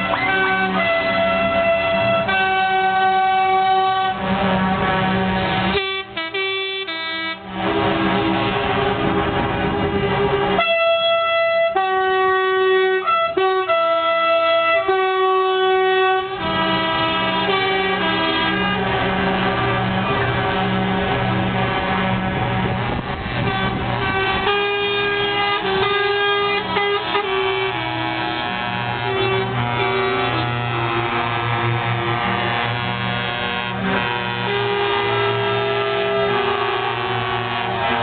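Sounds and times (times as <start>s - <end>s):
truck air horns blasting: 0.0s - 38.0s
truck engines running: 0.0s - 38.0s.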